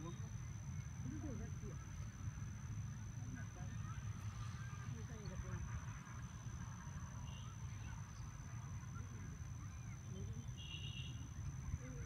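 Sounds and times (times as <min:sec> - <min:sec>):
faint distant calls: 0:00.0 - 0:12.0.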